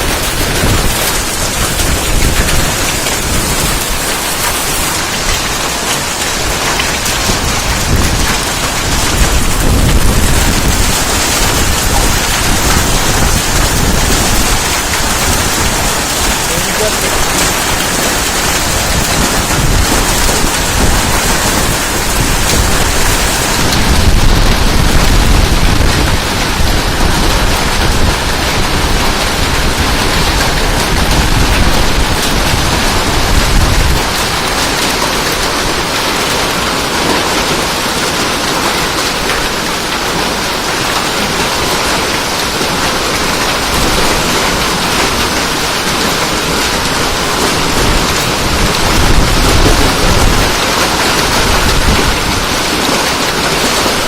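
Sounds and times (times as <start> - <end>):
hail and heavy rain: 0.0 - 54.0.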